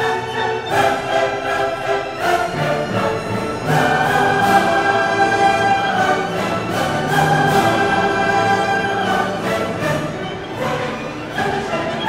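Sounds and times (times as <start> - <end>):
orchestral strings music: 0.0 - 12.0.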